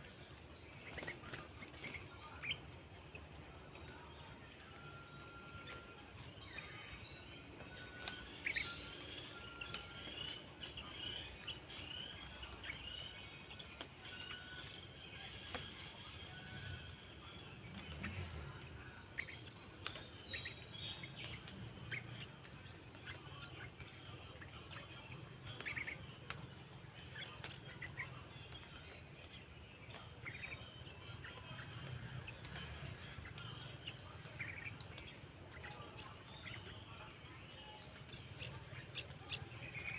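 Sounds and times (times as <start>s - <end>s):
birds chirping: 0.0s - 39.9s
insect chorus: 0.0s - 39.9s.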